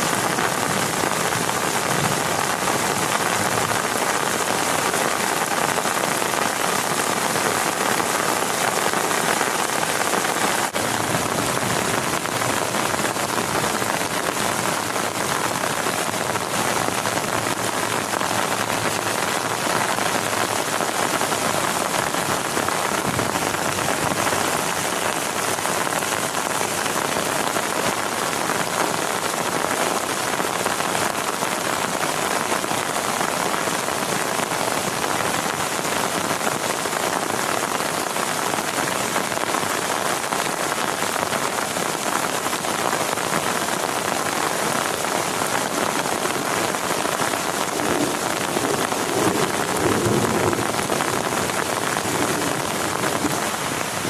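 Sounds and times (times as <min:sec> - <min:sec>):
heavy rain on a tent: 0:00.0 - 0:54.0.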